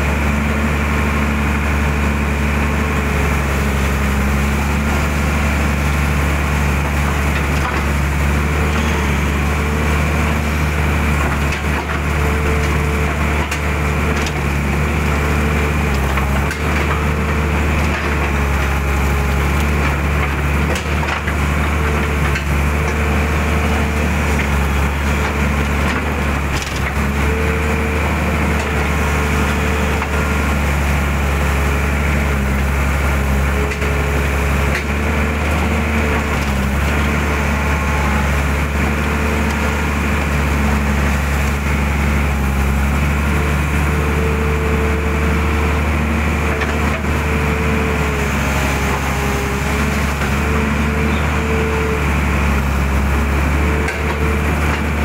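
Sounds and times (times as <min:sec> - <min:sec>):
excavator diesel engine under load: 0:00.0 - 0:55.0
hydraulic whine: 0:00.0 - 0:55.0.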